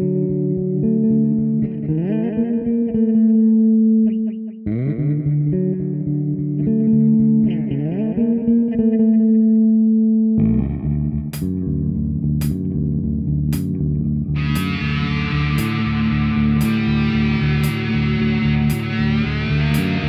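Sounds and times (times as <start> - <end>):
guitar and bass music: 0.0 - 20.0.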